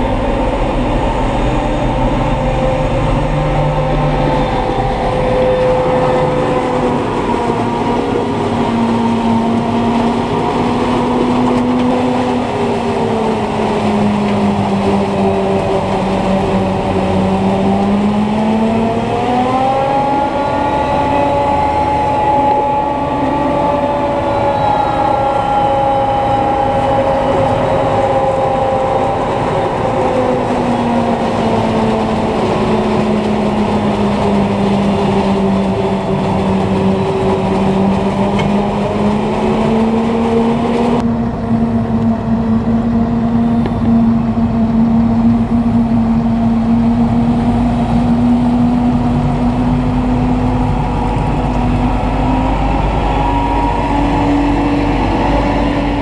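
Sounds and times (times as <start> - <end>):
tractor and trailer rumbling: 0.0 - 56.0
tractor diesel engine running: 0.0 - 56.0.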